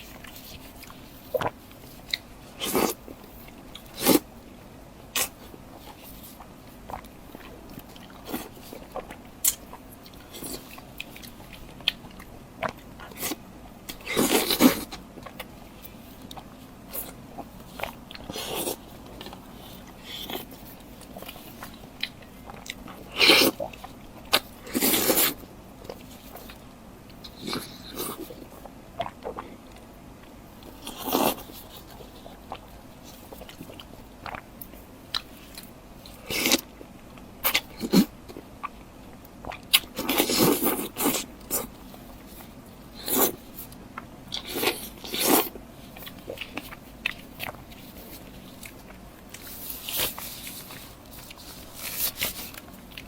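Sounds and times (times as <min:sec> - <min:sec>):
chewing: 0:00.0 - 0:04.3, 0:05.1 - 0:53.0
food crunching: 0:05.1 - 0:53.0.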